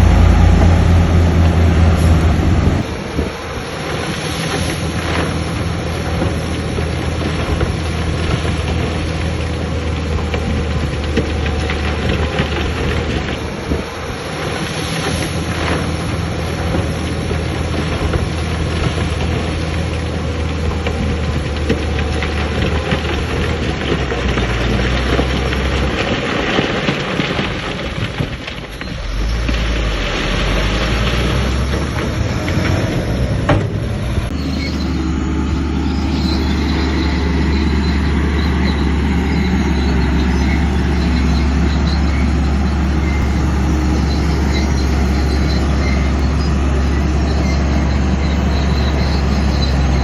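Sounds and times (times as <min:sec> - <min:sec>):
diesel engine running: 0:00.0 - 0:50.0
rock and gravel clattering: 0:00.0 - 0:50.0.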